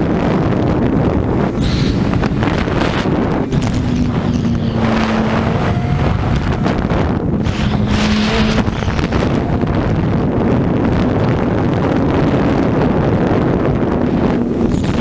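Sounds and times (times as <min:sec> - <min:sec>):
wind rushing over microphone: 0:00.0 - 0:15.0
motorcycle engine: 0:00.6 - 0:15.0.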